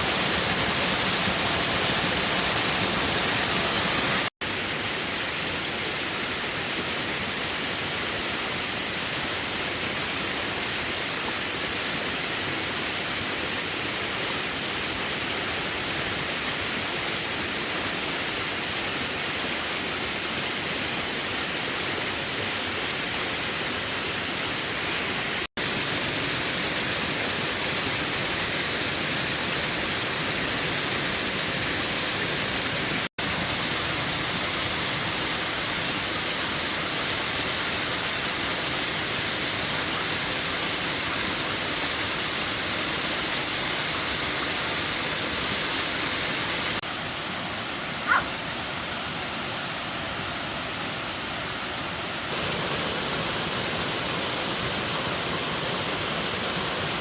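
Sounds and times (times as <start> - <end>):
rain or rushing water hiss: 0.0 - 57.0.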